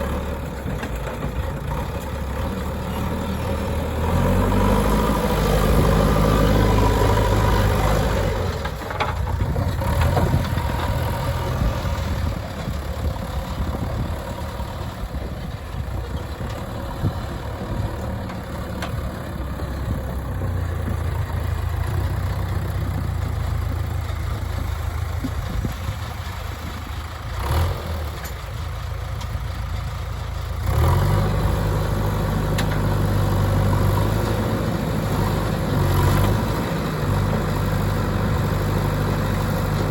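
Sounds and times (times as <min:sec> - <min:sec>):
backhoe diesel engine revving: 0:00.0 - 0:39.9.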